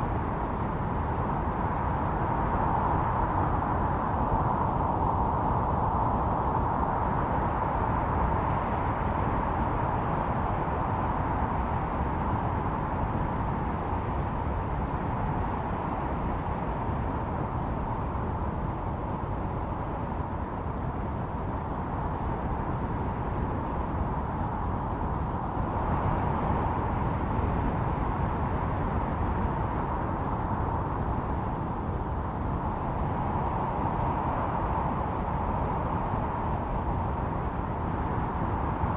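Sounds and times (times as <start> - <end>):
blizzard wind howling: 0.0 - 38.9.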